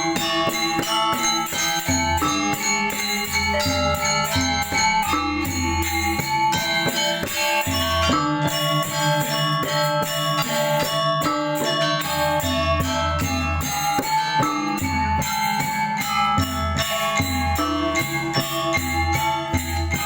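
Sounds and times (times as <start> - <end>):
metallophones struck rhythmically: 0.0 - 20.0.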